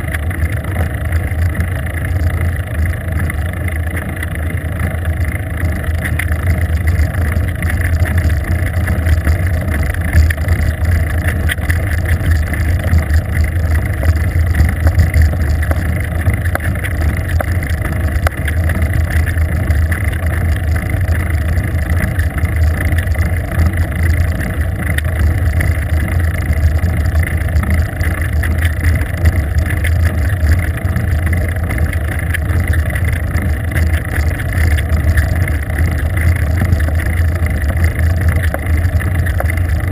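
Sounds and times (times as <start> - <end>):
wind and road noise rumble: 0.0 - 39.9.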